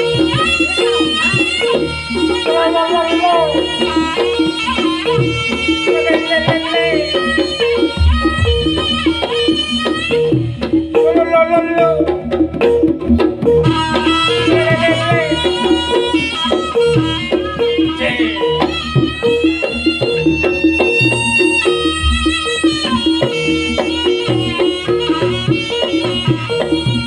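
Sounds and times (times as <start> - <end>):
drums: 0.0 - 27.0
gamelan metallophones: 0.0 - 27.0
high held melody line: 1.6 - 12.9, 13.6 - 27.0.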